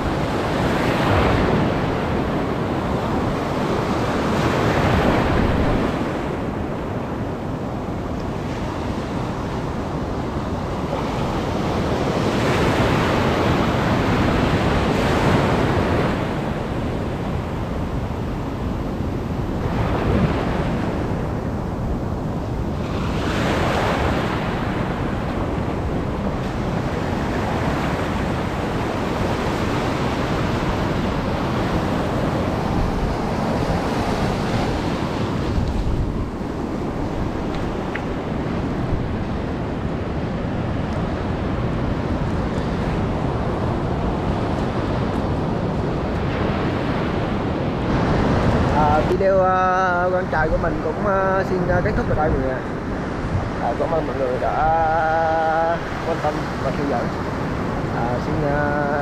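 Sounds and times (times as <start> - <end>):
waves breaking: 0.0 - 59.0
wind buffeting microphone: 0.0 - 59.0.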